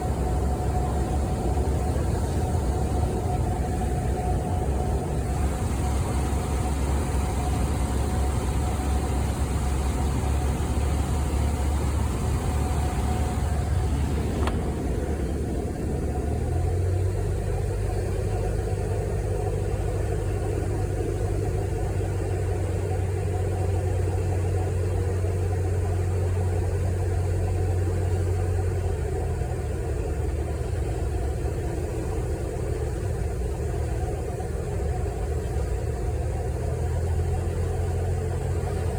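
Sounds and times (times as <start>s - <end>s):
vehicle engine drone: 0.0s - 38.9s.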